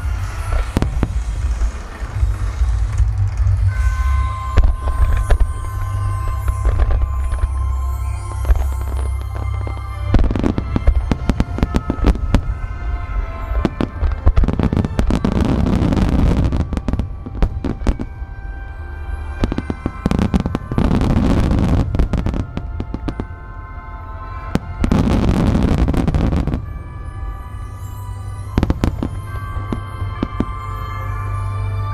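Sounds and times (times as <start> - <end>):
fireworks crackling: 0.0 - 31.9
music with sustained tones: 0.0 - 31.9.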